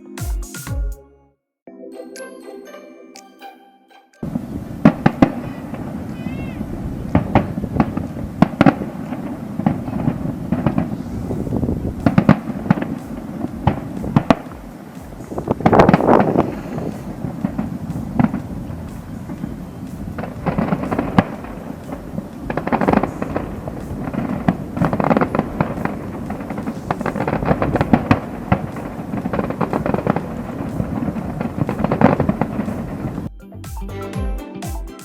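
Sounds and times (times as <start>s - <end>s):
fireworks bangs and crackling: 4.3s - 33.3s.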